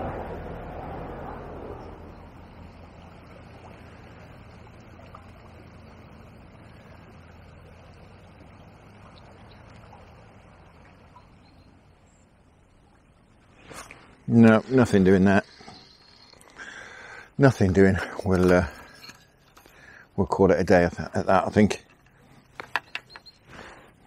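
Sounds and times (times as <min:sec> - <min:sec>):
low rumble with hum: 0:00.0 - 0:24.0.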